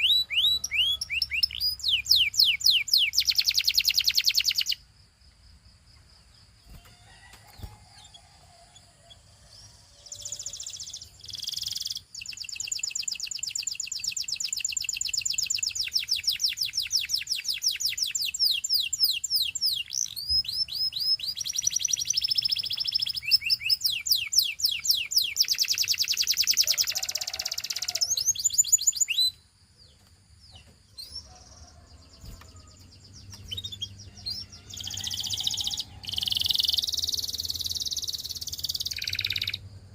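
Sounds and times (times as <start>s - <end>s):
canary singing trills: 0.0s - 4.8s, 6.6s - 39.9s
faint bird chirps: 0.0s - 4.9s, 5.9s - 39.8s.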